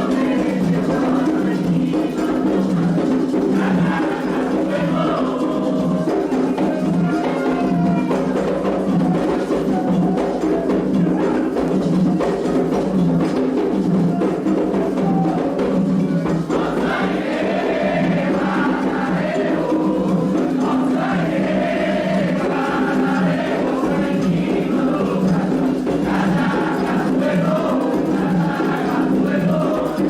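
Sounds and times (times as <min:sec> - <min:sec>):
group singing: 0:00.0 - 0:30.0
hand drums: 0:00.0 - 0:30.0
struck bell rhythm: 0:00.0 - 0:30.0.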